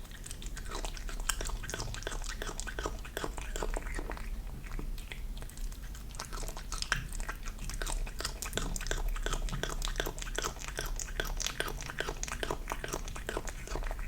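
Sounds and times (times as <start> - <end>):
kitten chewing: 0.0 - 14.0.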